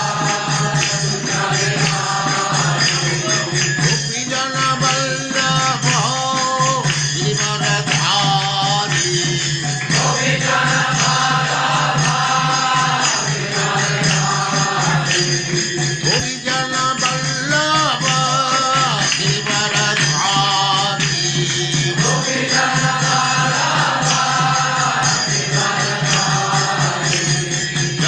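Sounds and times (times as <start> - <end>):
jingling hand percussion: 0.0 - 28.0.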